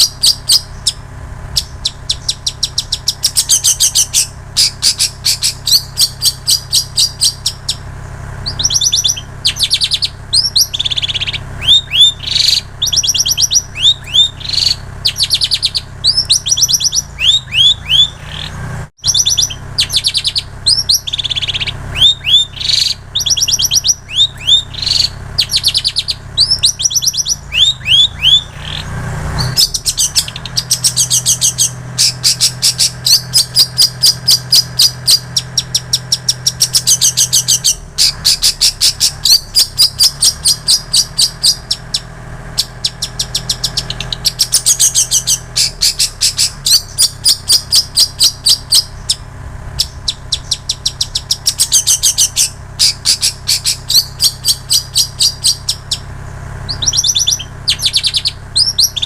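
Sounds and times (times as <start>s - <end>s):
shrike singing rapid high notes: 0.0s - 59.0s.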